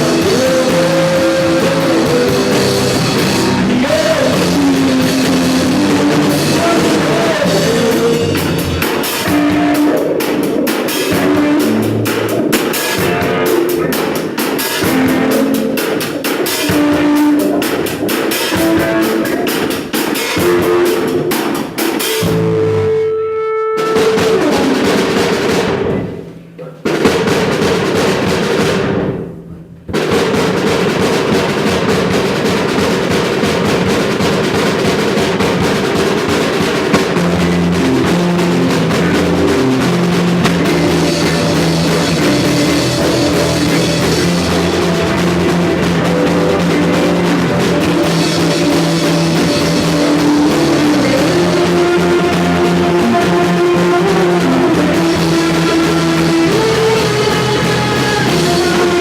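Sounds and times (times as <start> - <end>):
drum kit: 0.0 - 59.0
rock band playing live: 0.0 - 59.0.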